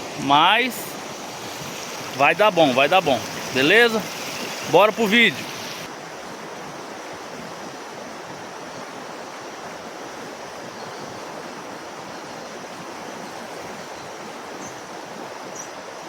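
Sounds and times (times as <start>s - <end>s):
creek rushing: 0.0s - 16.0s.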